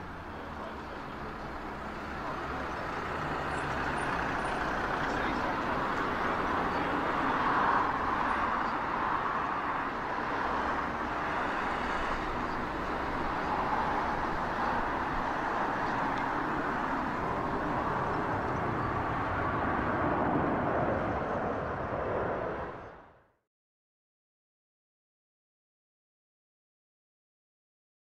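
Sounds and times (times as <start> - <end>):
jet engines overhead: 0.0 - 23.2.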